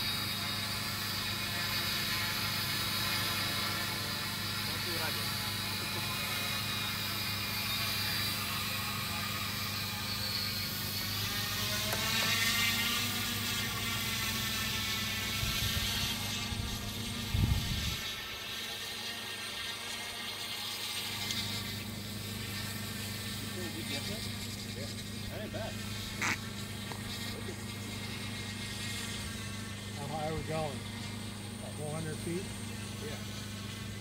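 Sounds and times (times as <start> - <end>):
drone propellers whirring: 0.0 - 34.0.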